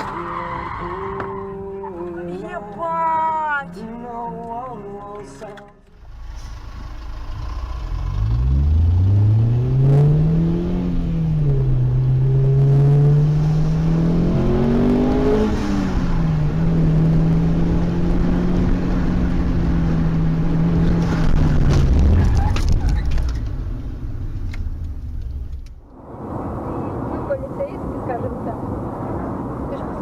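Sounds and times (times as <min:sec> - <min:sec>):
vehicle engine accelerating: 0:05.9 - 0:30.0.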